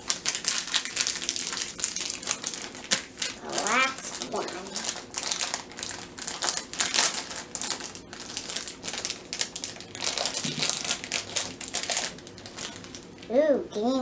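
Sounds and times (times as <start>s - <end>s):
wrapping crinkling and tearing: 0.0s - 13.3s.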